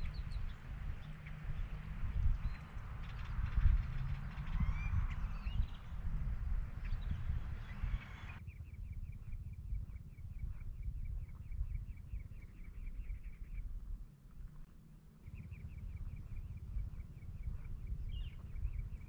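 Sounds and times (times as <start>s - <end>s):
birds chirping: 0.0s - 19.0s
low wind rumble: 0.0s - 19.0s.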